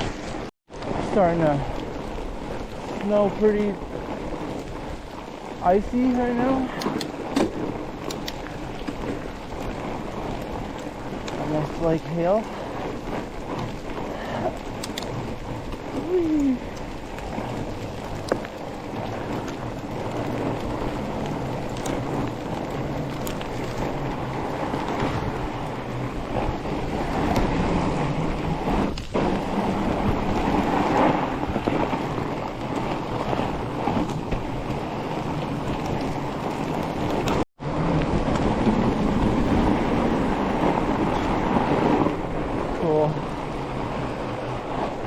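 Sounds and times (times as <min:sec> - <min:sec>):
bike tyres rolling on snow: 0:00.0 - 0:45.0
wind rushing over microphone: 0:00.0 - 0:45.0.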